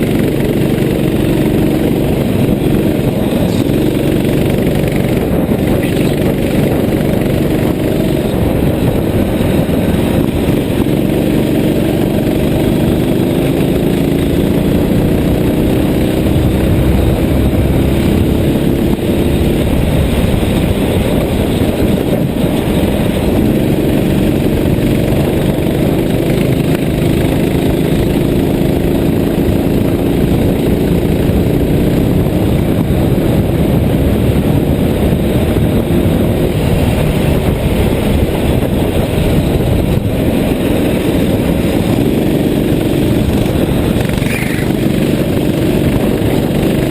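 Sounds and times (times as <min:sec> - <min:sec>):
constant dense noise: 0:00.0 - 0:46.9
vehicle engine running: 0:00.0 - 0:46.9.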